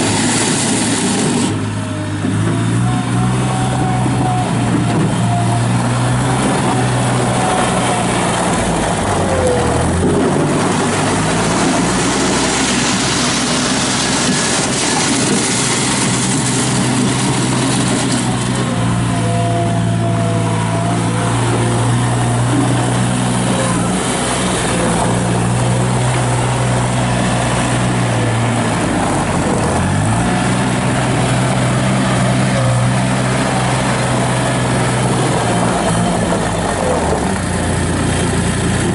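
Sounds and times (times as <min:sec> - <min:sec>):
skid steer loader engine running: 0:00.0 - 0:38.9.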